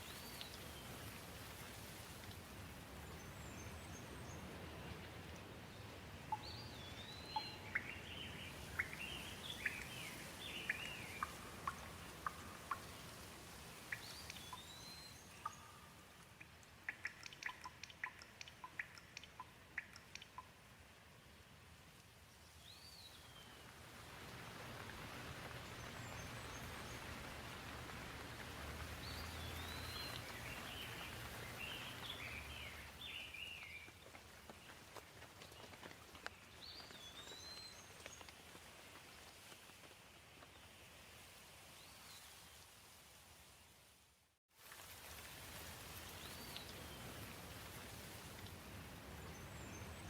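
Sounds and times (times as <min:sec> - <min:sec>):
gentle rain falling: 0:00.0 - 0:50.0.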